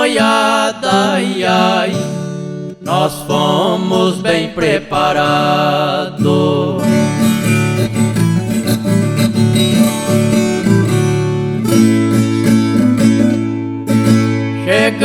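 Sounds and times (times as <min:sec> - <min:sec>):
acoustic guitars plucked and strummed: 0:00.0 - 0:15.0.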